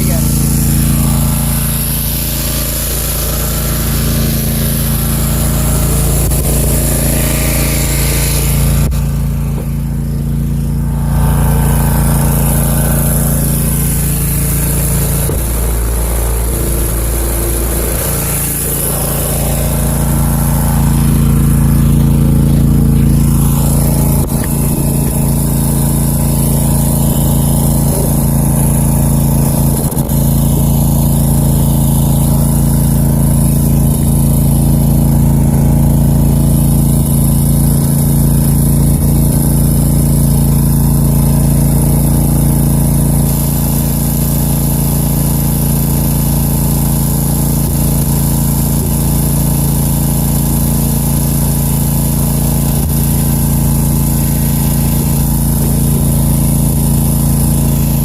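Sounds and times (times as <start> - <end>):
mower engine running under load: 0.0 - 58.0.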